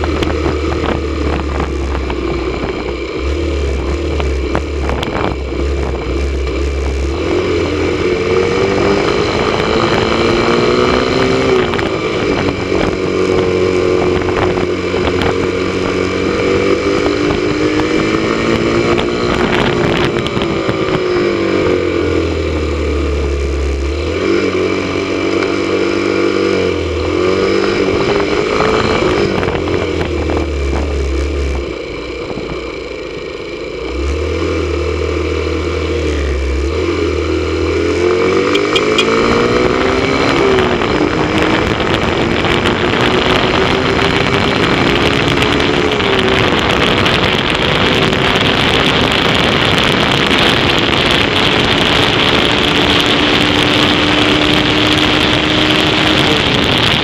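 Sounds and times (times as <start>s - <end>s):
low rumble: 0.0s - 25.6s, 26.8s - 57.0s
motorcycle engine running: 0.0s - 57.0s.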